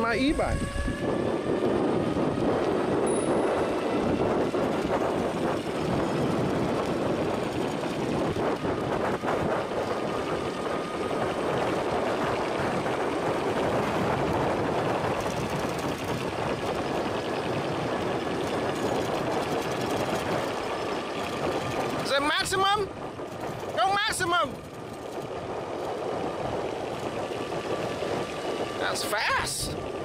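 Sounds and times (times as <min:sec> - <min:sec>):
tyres rolling on asphalt: 0:01.2 - 0:30.0.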